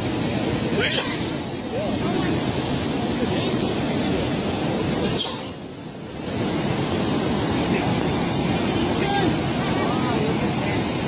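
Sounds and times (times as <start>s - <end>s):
storm surf: 0.0s - 11.0s.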